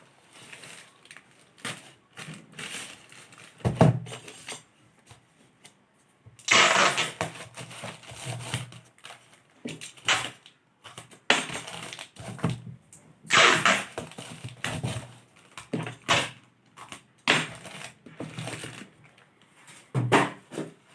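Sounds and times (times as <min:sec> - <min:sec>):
packaging crinkling and rustling: 0:00.2 - 0:05.2, 0:06.6 - 0:12.7, 0:13.6 - 0:20.9.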